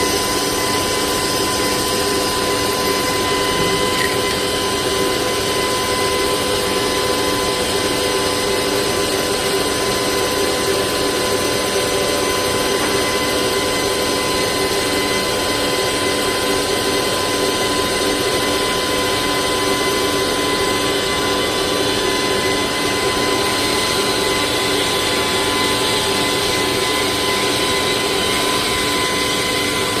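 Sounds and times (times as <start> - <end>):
cnc knife machine whine: 0.0 - 30.0.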